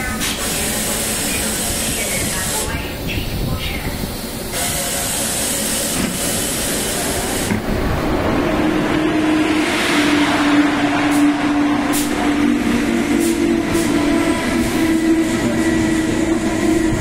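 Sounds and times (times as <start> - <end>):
electric locomotive hum: 0.0 - 17.0
passenger train running in: 0.0 - 17.0.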